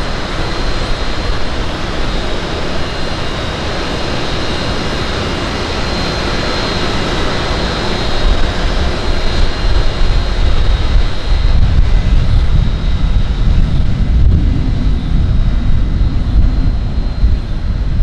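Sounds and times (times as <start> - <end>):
rushing outdoor noise: 0.0 - 18.0
wind gusts on microphone: 0.0 - 18.0.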